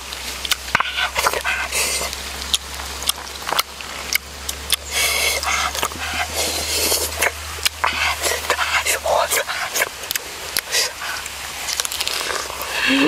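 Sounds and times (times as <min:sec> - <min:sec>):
breathy wet noise: 0:00.0 - 0:13.0.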